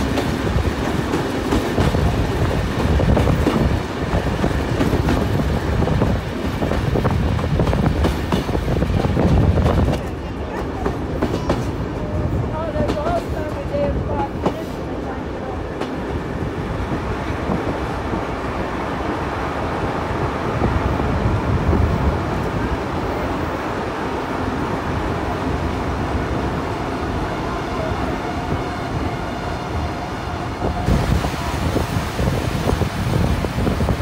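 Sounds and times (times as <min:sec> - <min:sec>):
train wheels rattling on rails: 0:00.0 - 0:34.0.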